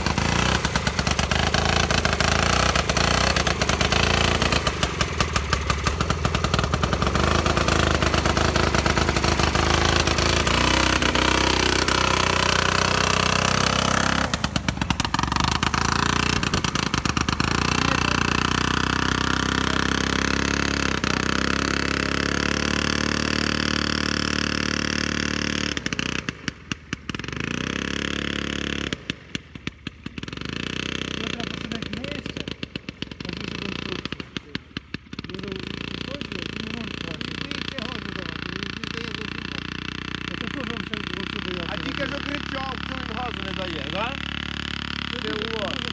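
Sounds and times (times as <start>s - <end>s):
two-stroke engine revving: 0.0s - 45.9s.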